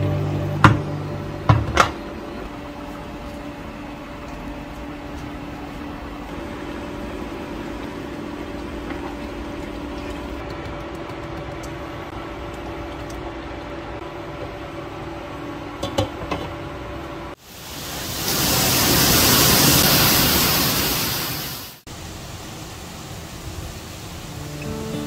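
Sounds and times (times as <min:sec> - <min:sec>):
machine hum: 0:00.0 - 0:17.4, 0:18.0 - 0:25.0.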